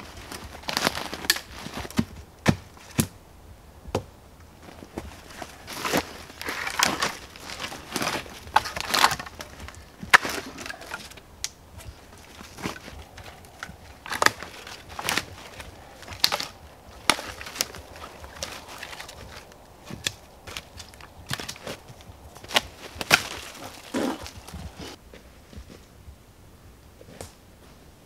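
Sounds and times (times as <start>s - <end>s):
twigs cracking: 0.0s - 3.2s, 4.0s - 25.0s.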